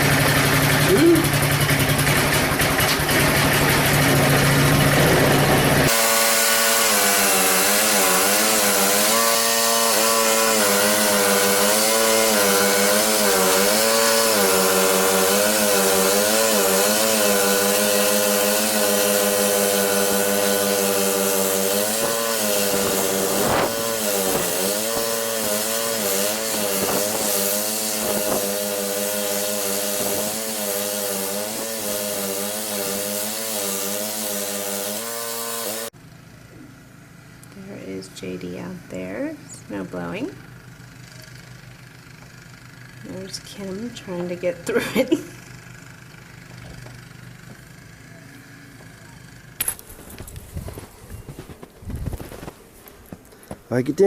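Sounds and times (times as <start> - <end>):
snowblower engine running: 0.0 - 37.5, 39.7 - 54.0.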